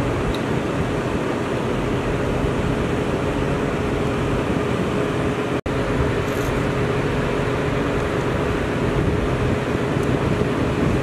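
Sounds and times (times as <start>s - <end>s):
fire truck engines idling: 0.0s - 11.0s.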